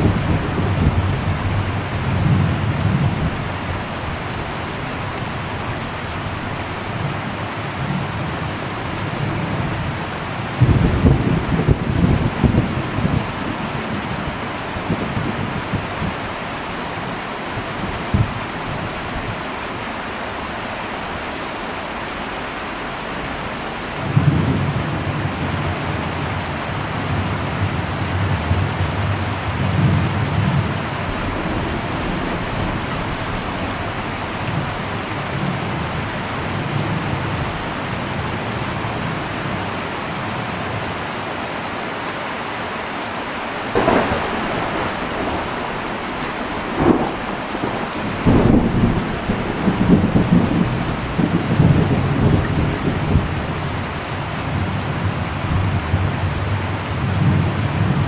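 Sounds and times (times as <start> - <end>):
thunder rumble: 0.0 - 19.4, 24.0 - 38.3, 43.5 - 58.0
heavy rain on a metal roof: 0.0 - 58.0.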